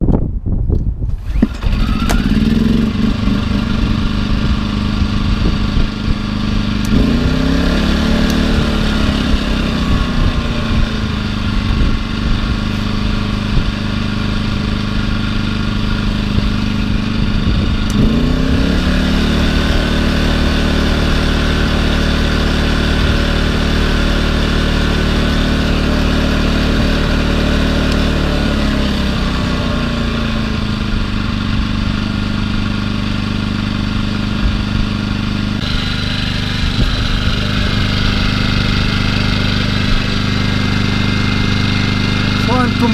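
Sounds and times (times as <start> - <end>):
portable generator engine running: 1.2 - 42.9.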